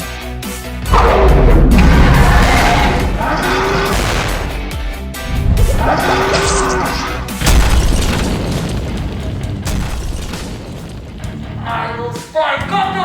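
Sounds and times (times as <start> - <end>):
background music: 0.0 - 13.0
heavy boom hit: 0.9 - 11.7.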